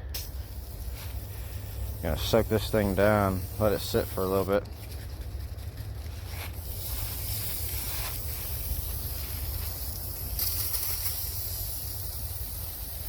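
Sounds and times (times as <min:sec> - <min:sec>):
aerosol can spraying hiss: 0:00.1 - 0:13.0.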